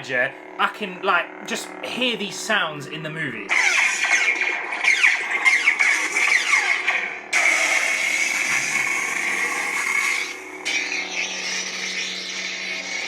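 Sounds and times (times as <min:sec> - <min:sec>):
harsh buzzing: 0:00.0 - 0:13.0
lightsaber humming and whooshing: 0:00.0 - 0:13.0.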